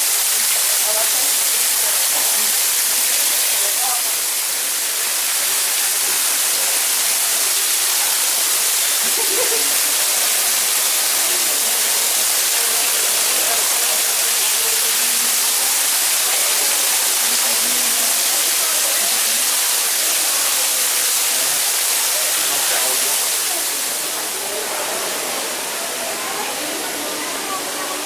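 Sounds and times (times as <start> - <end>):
waterfall rushing over rocks: 0.0 - 28.0.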